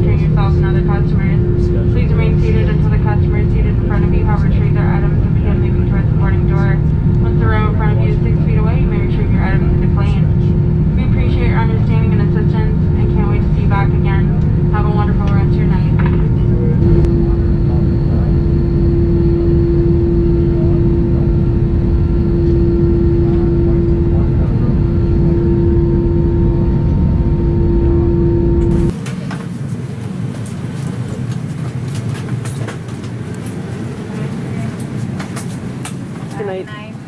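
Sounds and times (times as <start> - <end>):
aircraft cabin rumble: 0.0 - 37.0
constant hum: 0.0 - 37.0.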